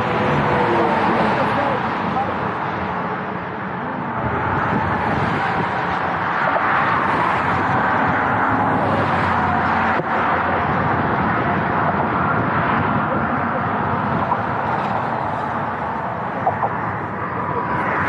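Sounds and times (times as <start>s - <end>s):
highway traffic road noise: 0.0s - 18.0s.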